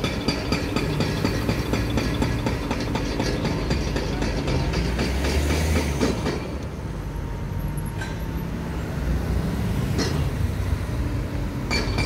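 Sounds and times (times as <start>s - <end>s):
diesel engines rumbling: 0.0s - 12.0s
street traffic: 0.0s - 12.0s.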